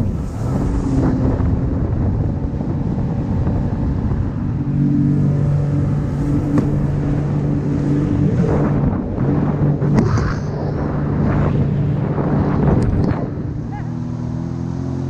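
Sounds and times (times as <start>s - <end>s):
rushing water: 0.0s - 12.6s
personal watercraft engine: 0.0s - 15.0s.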